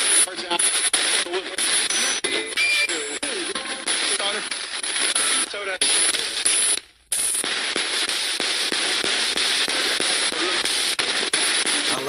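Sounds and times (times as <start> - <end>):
radio static hiss: 0.0 - 12.0
rapid radio clicks: 0.0 - 12.0.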